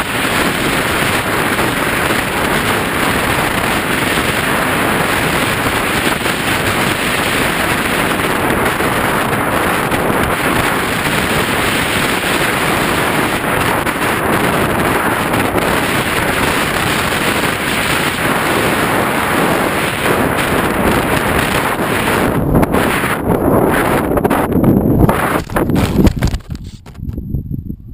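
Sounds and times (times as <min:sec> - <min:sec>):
wind rushing over microphone: 0:00.0 - 0:27.9.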